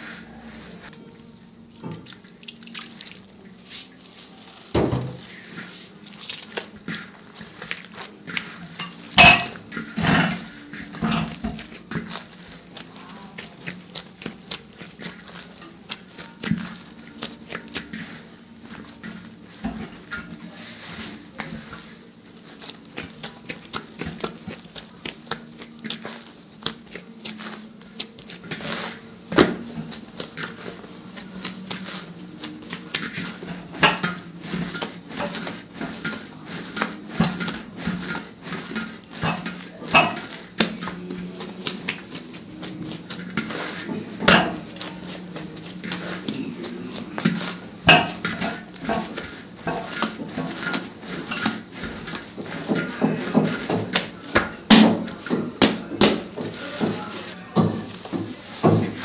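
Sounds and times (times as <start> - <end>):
dough kneaded in metal pan: 0.0 - 59.0.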